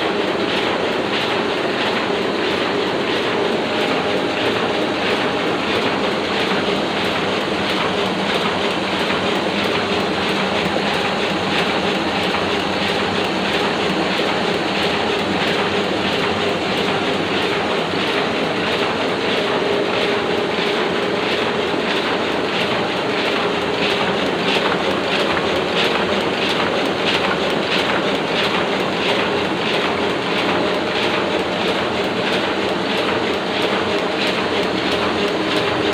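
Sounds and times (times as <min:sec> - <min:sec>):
printing press clattering: 0:00.0 - 0:35.9.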